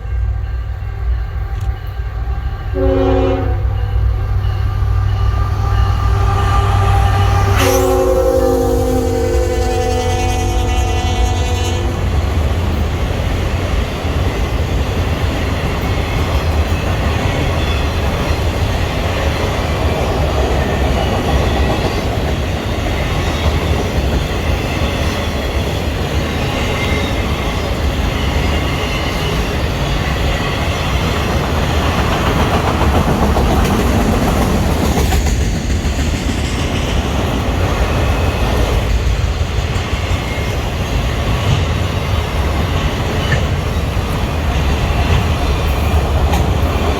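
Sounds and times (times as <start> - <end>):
train cars clickety-clack: 0.0 - 46.9
train wheels rumbling on rail: 0.0 - 46.9.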